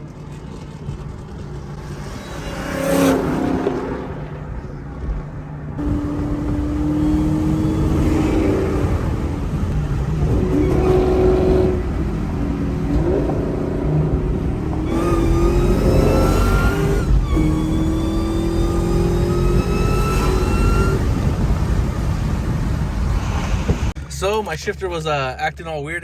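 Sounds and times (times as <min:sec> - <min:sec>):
high supercharger whine: 0:00.8 - 0:26.0
car engine revving under throttle: 0:01.8 - 0:04.8, 0:05.7 - 0:24.0.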